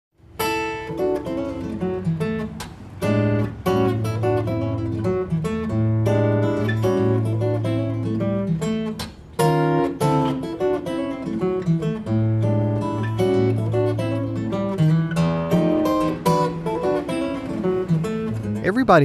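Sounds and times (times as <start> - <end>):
acoustic guitar music: 0.2 - 19.0.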